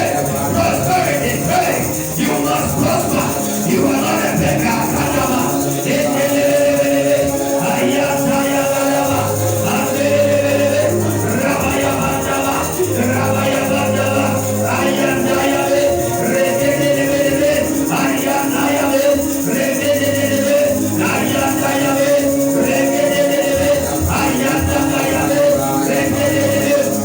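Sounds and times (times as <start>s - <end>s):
church keyboard music: 0.0s - 27.0s
jingling hand percussion: 0.0s - 27.0s.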